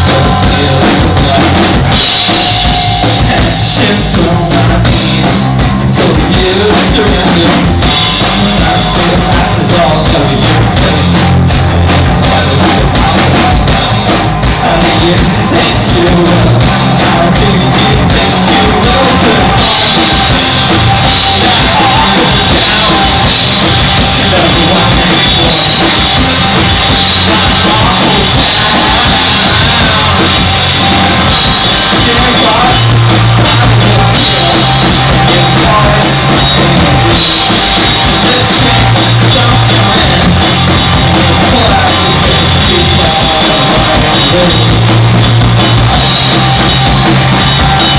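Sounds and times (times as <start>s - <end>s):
noise-rock band playing: 0.0s - 47.9s
rapid drum hits: 0.0s - 47.9s.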